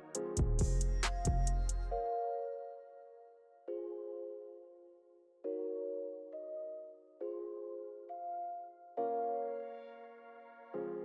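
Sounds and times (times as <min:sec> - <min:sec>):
chords of background music: 0:00.0 - 0:11.0.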